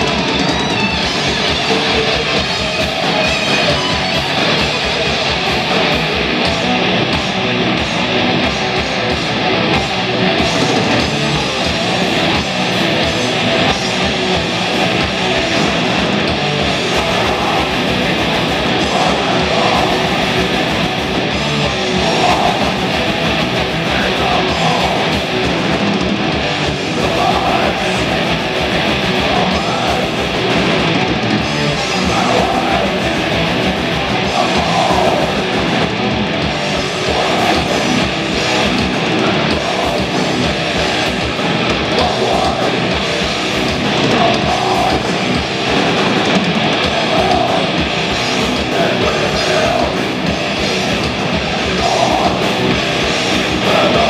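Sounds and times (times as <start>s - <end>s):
bass guitar: 0.0s - 54.0s
distorted electric guitars: 0.0s - 54.0s
fast driving drums: 0.0s - 54.0s.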